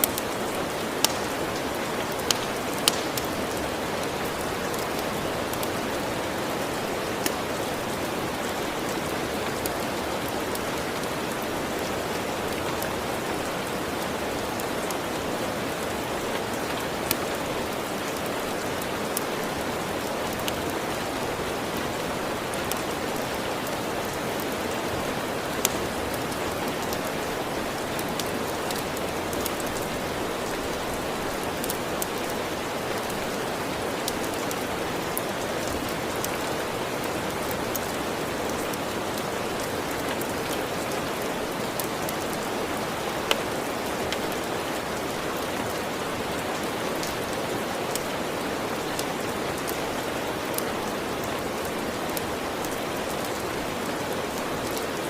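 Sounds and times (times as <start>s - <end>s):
steady rain hissing: 0.0s - 55.0s
wood fire crackling: 0.0s - 55.0s.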